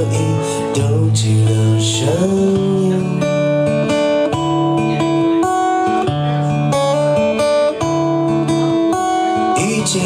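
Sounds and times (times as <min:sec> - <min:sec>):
acoustic guitar playing: 0:00.0 - 0:10.0.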